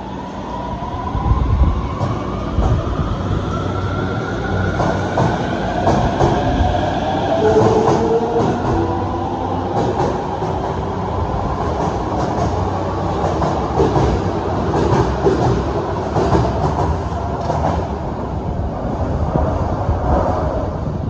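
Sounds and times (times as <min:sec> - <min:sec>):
subway train passing: 0:00.0 - 0:21.0.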